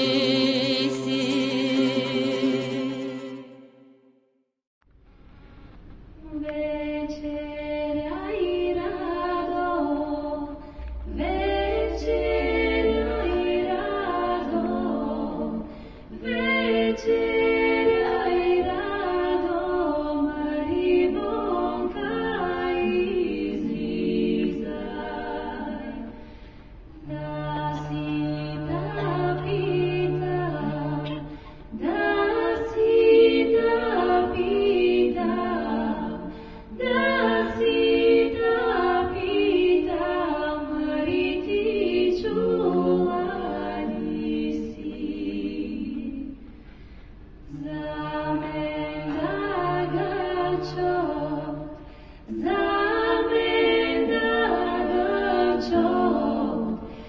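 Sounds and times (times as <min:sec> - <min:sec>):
unaccompanied choir singing: 0:00.0 - 0:04.0, 0:06.3 - 0:46.6, 0:47.5 - 0:57.0.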